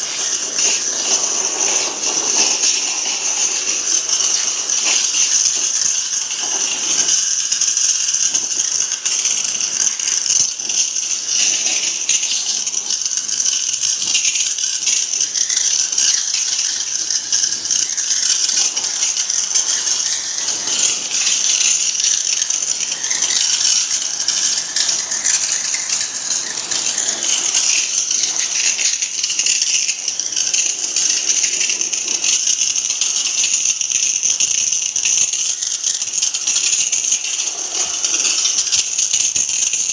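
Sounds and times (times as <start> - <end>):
pressure washer water jet hissing: 0.0 - 39.9.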